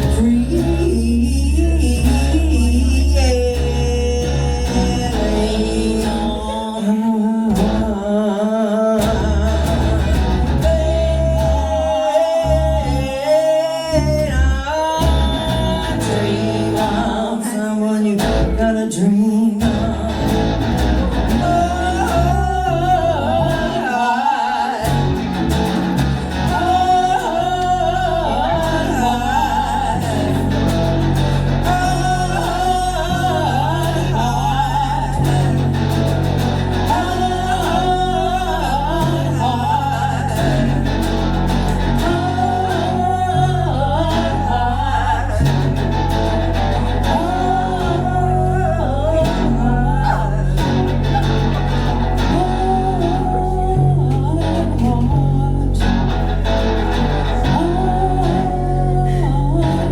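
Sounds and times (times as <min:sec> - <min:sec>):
bass line: 0:00.0 - 0:06.8, 0:07.5 - 0:08.2, 0:09.0 - 0:17.4, 0:18.2 - 0:18.8, 0:19.6 - 0:59.9
guitar: 0:00.0 - 0:59.9.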